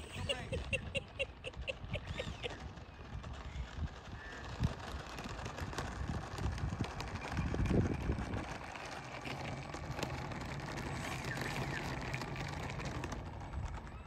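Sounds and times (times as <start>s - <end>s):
electric ducted fans running: 0.0s - 14.0s
wind hitting microphone: 0.0s - 14.0s.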